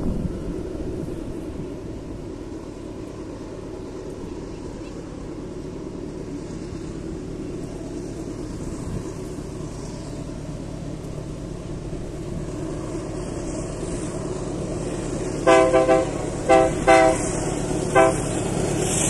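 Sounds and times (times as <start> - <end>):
diesel locomotives rumbling: 0.0 - 19.0.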